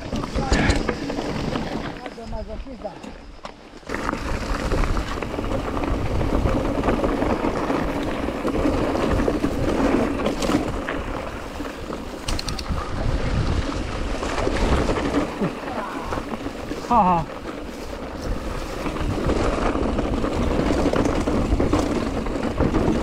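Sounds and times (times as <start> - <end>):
bike rattling over stones: 0.0 - 23.0
wind rushing over microphone: 3.9 - 23.0.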